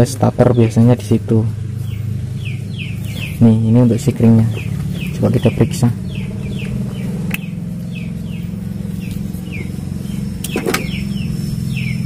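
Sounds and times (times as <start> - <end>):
car engine idling: 0.0 - 12.0
small birds chirping: 0.0 - 12.0.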